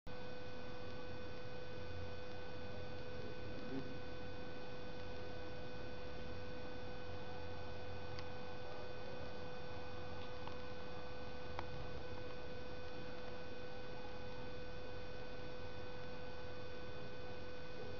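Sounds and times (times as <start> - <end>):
steady electrical whine: 0.1 - 17.9.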